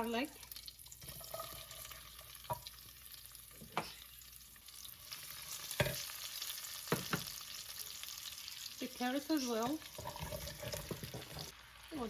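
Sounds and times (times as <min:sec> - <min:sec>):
onion and garlic sizzling in oil: 0:00.0 - 0:12.0.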